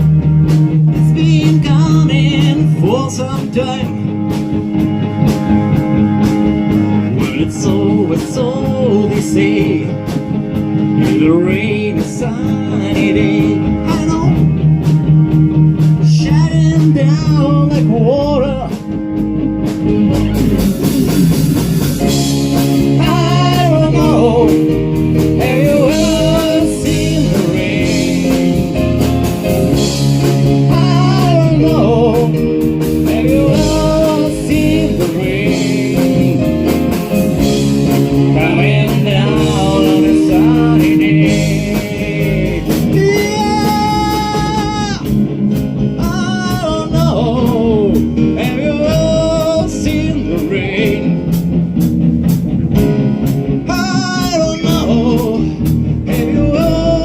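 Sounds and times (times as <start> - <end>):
lead guitar bending pitch: 0.0 - 57.0
rock band music: 0.0 - 57.0.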